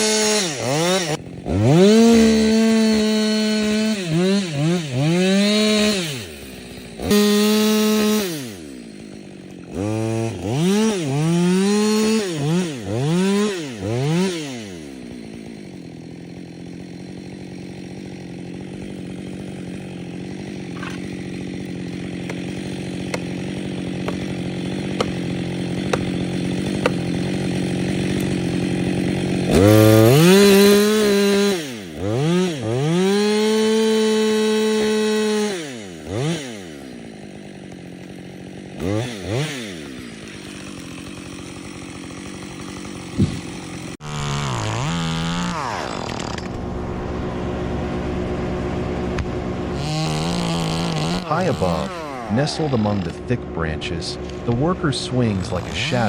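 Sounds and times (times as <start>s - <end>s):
chainsaw revving and idling: 0.0s - 56.0s.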